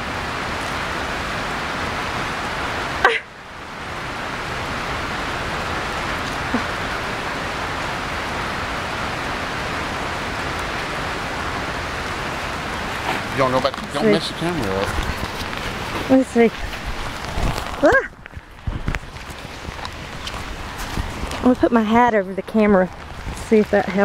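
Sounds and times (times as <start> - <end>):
rain falling on a pond: 0.0 - 24.0.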